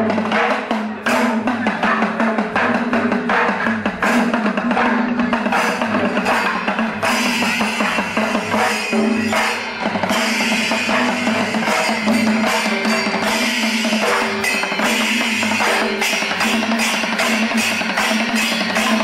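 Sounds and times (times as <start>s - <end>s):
drums and percussion beat: 0.0s - 19.0s.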